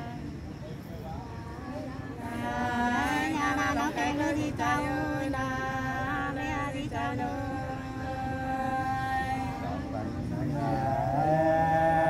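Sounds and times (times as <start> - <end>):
unaccompanied folk singing: 0.0 - 12.0.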